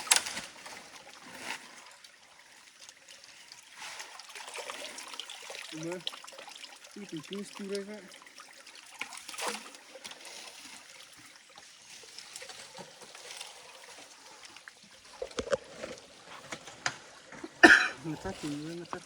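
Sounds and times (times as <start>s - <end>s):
small splashes and knocks: 0.0s - 19.0s
stream water trickling: 0.0s - 19.0s.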